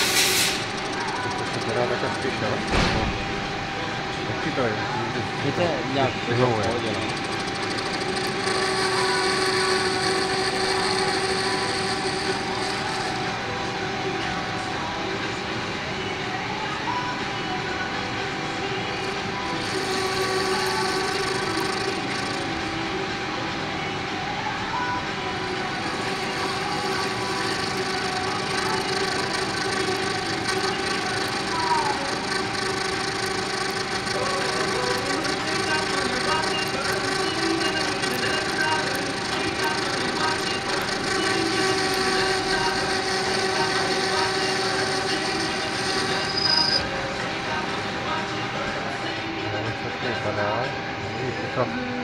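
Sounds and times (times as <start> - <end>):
high whine of cutting tool: 0.0 - 52.0
metal lathe running: 0.0 - 52.0.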